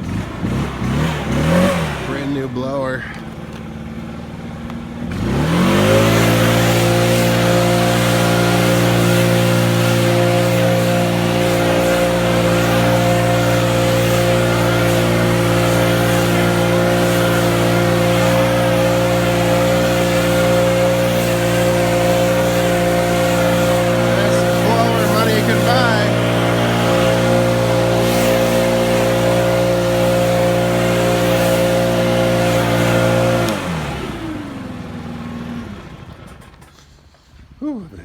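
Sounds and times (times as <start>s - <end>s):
leaf blower engine revving: 0.0s - 36.9s.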